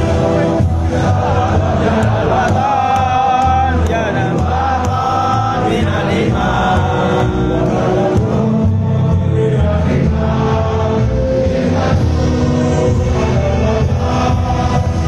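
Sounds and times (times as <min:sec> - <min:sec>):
amplified music with bass: 0:00.0 - 0:15.0
group singing: 0:00.0 - 0:15.0.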